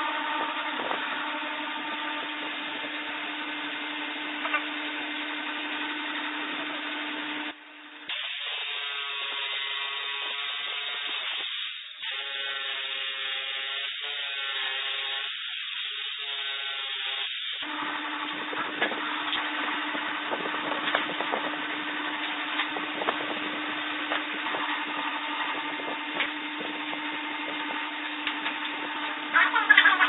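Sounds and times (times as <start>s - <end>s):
electric power tool whirring: 0.0s - 30.0s.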